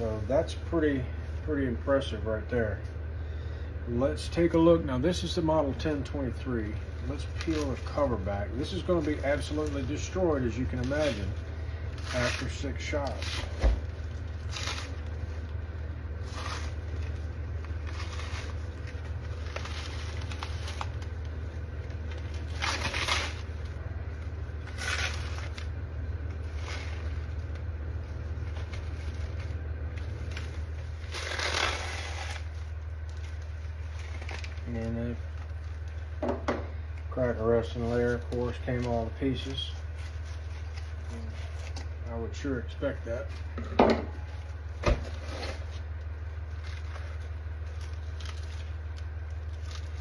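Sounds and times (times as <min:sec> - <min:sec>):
steady low hum: 0:00.0 - 0:50.0
rustling and crunching: 0:05.5 - 0:50.0.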